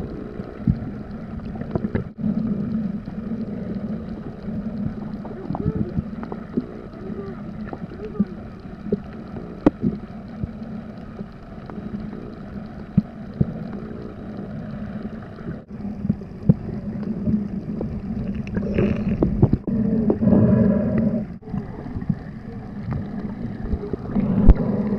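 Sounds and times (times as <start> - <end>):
muffled water noise: 0.0 - 24.9
steady low hum: 0.0 - 24.9.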